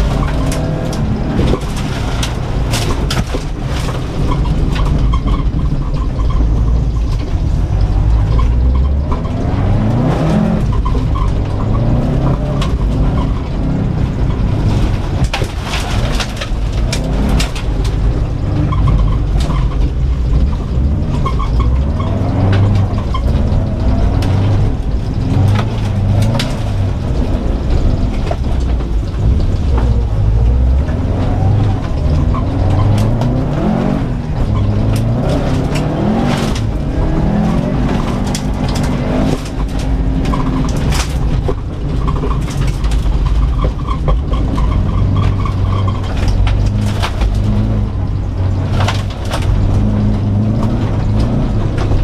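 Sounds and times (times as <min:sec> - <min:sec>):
heavy rumble: 0:00.0 - 0:52.0
car engine revving hard: 0:06.5 - 0:52.0.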